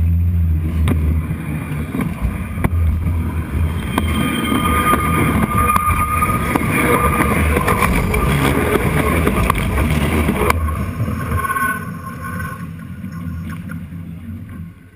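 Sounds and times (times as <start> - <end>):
high-pitched train whine: 0.0 - 14.9
train rumbling and rattling overhead: 0.0 - 14.9.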